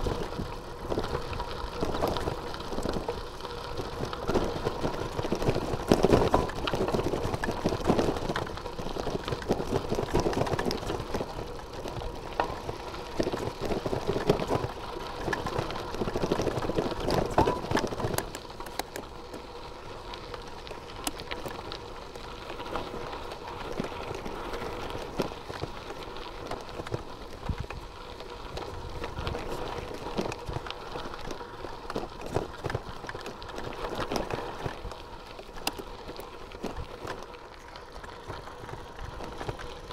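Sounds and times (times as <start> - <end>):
bicycle rattling clicks: 0.0 - 39.9
bicycle tyres crunching on gravel: 0.0 - 39.9.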